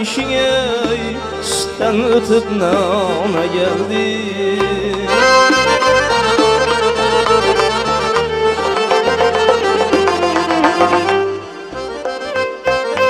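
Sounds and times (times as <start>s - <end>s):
bass line: 0.0s - 13.0s
ornamented instrumental melody: 0.0s - 13.0s.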